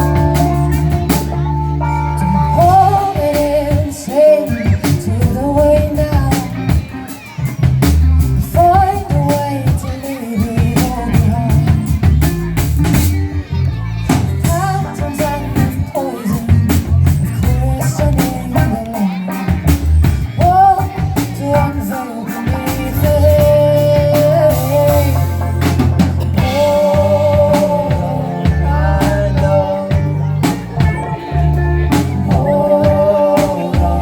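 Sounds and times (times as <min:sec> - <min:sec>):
bass: 0:00.0 - 0:34.0
drum kit beat: 0:00.0 - 0:34.0
sung melody: 0:00.0 - 0:34.0.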